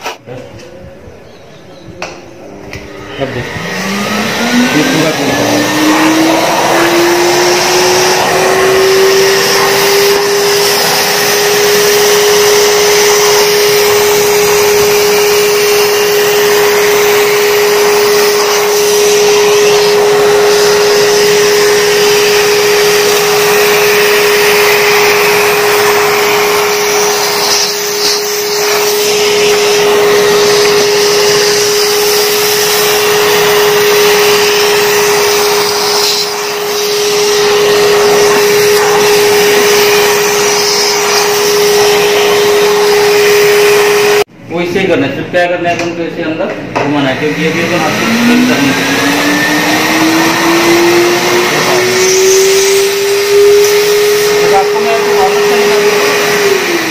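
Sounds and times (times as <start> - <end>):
vacuum cleaner suction: 0.0 - 0.9, 2.4 - 44.3, 47.1 - 56.9.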